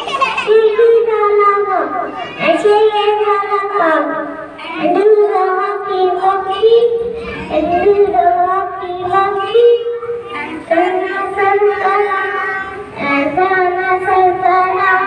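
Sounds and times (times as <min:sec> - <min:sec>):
boy singing into a microphone: 0:00.5 - 0:15.0.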